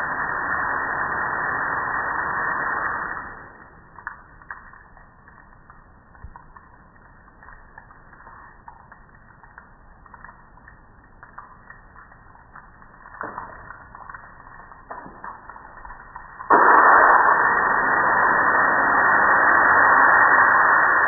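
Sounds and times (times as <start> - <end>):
water splashing on metal grill: 0.0 - 21.0
water drops ticking: 2.7 - 20.6.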